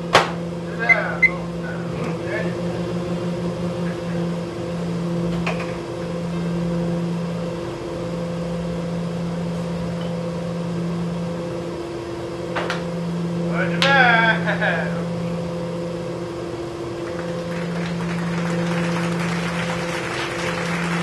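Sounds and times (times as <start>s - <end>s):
appliance electrical hum: 0.0s - 21.0s.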